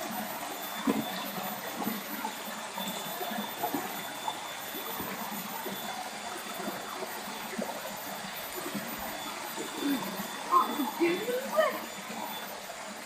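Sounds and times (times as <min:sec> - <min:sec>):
stream water flowing and trickling: 0:00.0 - 0:13.0.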